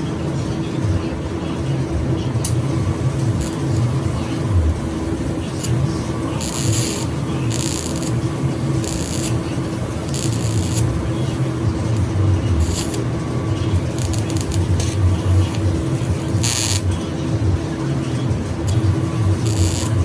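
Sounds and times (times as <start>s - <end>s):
low hum and rumble: 0.0s - 20.0s
welding hiss bursts: 2.4s - 20.0s.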